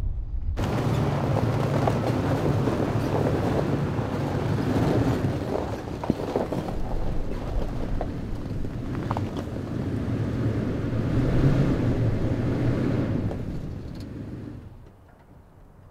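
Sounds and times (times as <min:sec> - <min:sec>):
truck engine hum: 0:00.5 - 0:15.0
tyres crackling over snow: 0:00.6 - 0:14.0.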